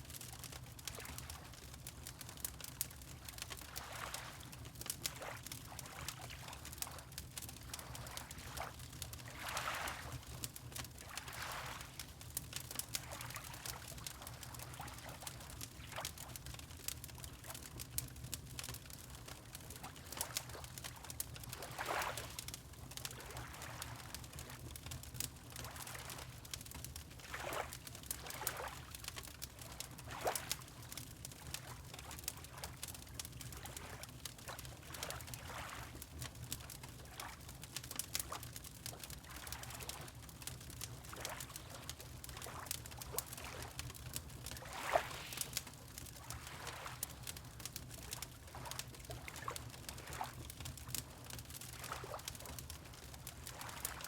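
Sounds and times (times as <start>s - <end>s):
fireplace crackling and popping: 0.1s - 54.0s
water lapping gently: 3.2s - 16.4s, 18.6s - 24.5s, 25.5s - 26.6s, 27.2s - 54.0s.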